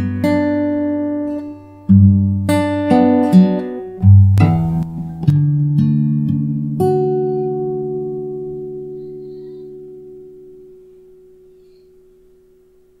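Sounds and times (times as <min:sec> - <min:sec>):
acoustic guitar chord ringing: 0:00.0 - 0:13.0.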